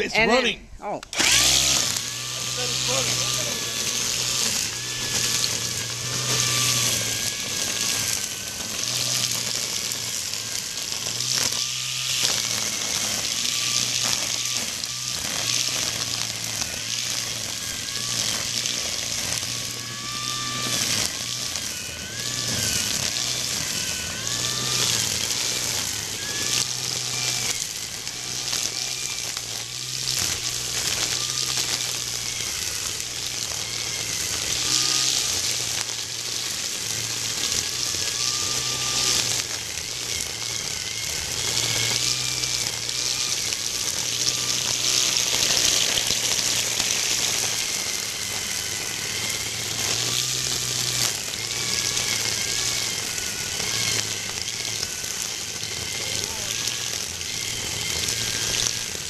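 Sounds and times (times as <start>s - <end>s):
string trimmer motor whine: 0.0s - 59.0s.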